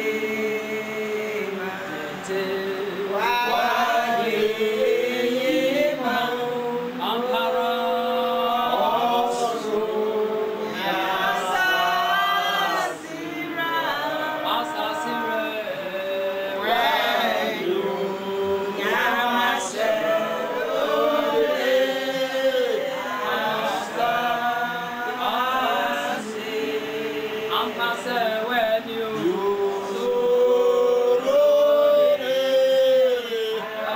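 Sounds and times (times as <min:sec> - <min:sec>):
group singing without instruments: 0:00.0 - 0:33.9.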